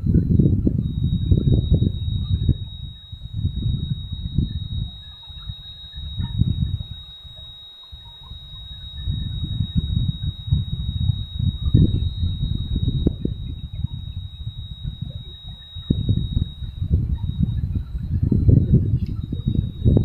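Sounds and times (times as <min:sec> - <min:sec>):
high-pitched whine: 0:00.0 - 0:20.0
wind buffeting microphone: 0:00.0 - 0:20.0.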